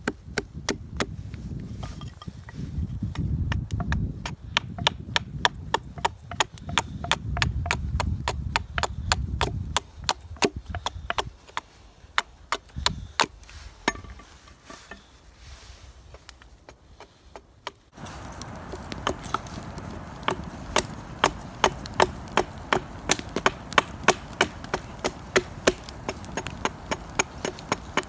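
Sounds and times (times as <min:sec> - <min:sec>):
hatchet chopping wood: 0:00.0 - 0:01.2, 0:01.8 - 0:15.0, 0:16.6 - 0:28.0.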